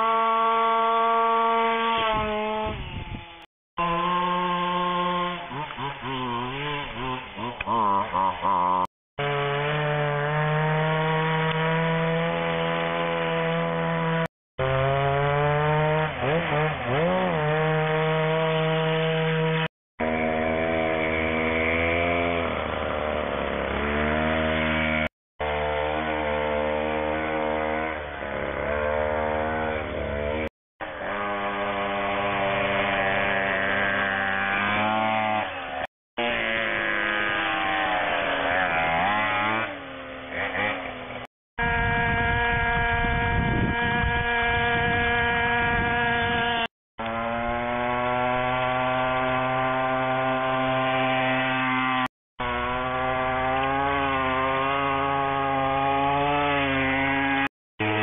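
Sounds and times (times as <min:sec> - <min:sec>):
two-stroke scooter engines revving: 0:00.0 - 0:58.0.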